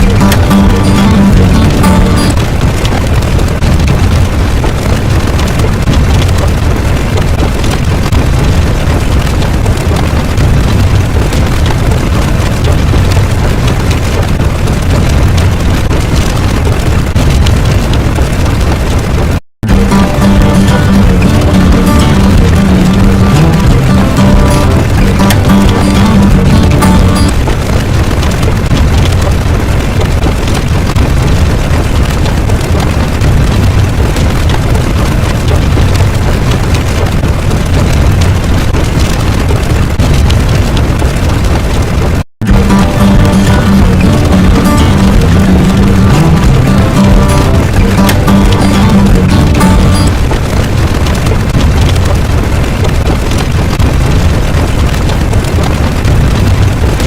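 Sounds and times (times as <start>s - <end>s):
loud continuous low rumble: 0.0s - 57.0s.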